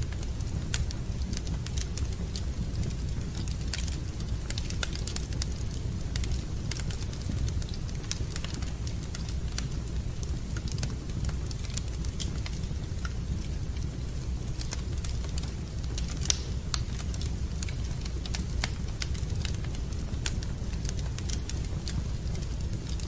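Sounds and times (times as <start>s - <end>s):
fire low rumble: 0.0s - 23.0s
wood fire crackling and popping: 0.0s - 23.0s.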